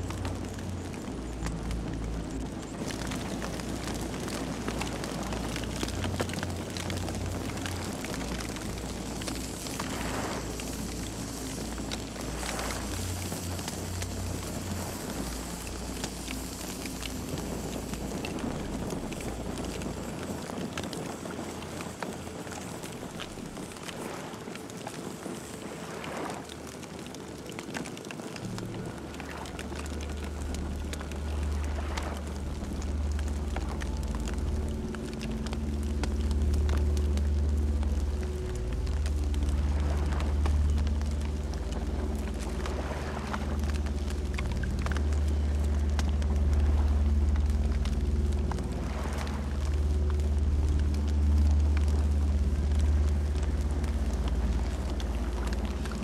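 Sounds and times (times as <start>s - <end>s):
campfire crackling and popping: 0.0s - 56.0s
low rumble: 0.0s - 56.0s.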